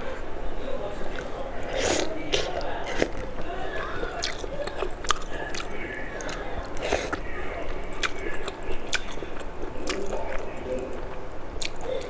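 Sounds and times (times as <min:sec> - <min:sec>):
wet chewing: 0:00.8 - 0:12.0.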